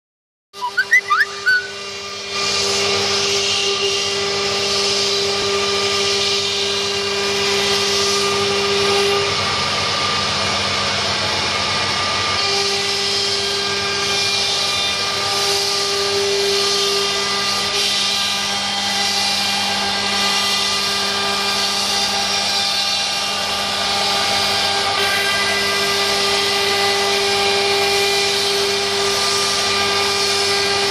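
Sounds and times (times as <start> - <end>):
router spindle whine: 1.3 - 30.9.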